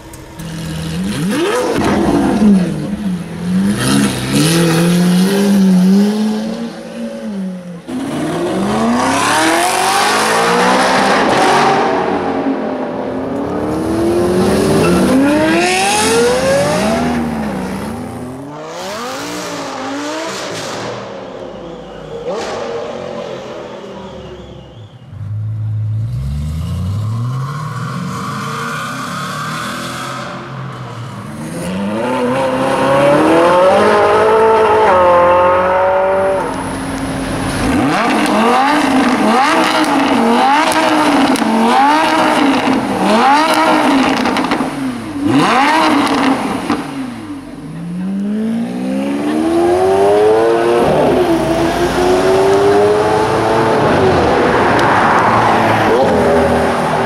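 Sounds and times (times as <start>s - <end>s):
sports car engines revving: 0.0s - 57.0s.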